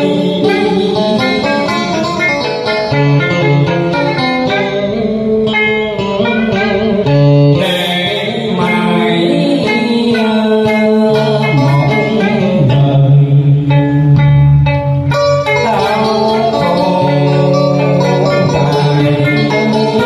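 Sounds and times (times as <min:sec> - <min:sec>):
man singing into microphone: 0:00.0 - 0:04.9, 0:06.4 - 0:14.4, 0:15.2 - 0:20.0
electric guitar: 0:00.0 - 0:20.0
plucked lute: 0:00.0 - 0:20.0.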